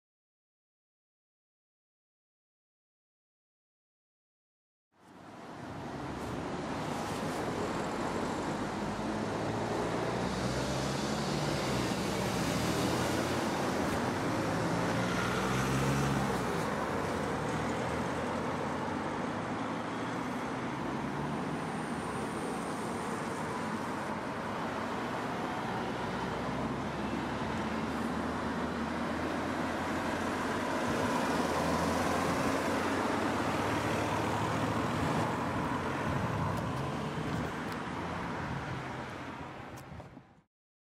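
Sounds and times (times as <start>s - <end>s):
cars driving past: 5.7s - 39.7s.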